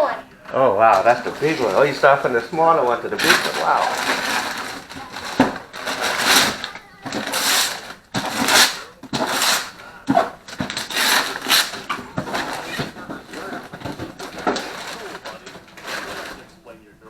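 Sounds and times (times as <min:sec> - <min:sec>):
packaging rustling: 0:00.6 - 0:16.7.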